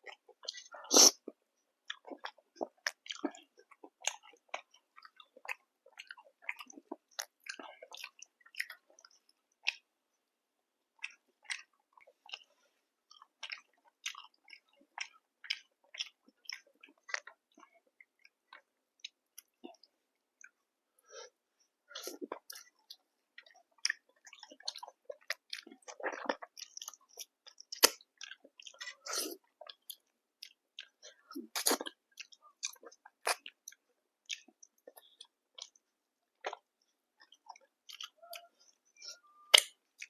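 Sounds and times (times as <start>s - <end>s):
chewing food: 0.0s - 40.0s.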